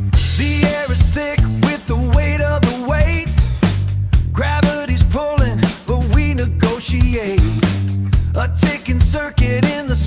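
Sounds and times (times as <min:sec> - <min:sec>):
funk soul dance music: 0:00.0 - 0:10.0.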